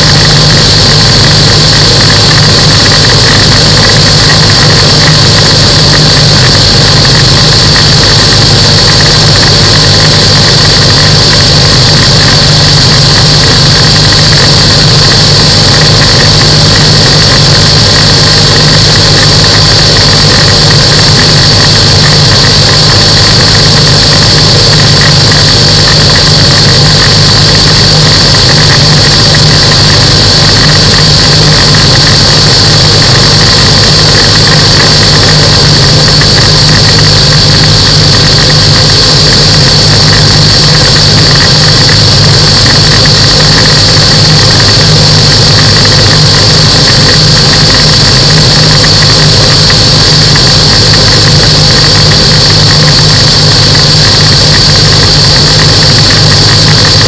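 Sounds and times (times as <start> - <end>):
high-pitched whine: 0.0 - 57.0
microlight aircraft engine and propeller: 0.0 - 57.0.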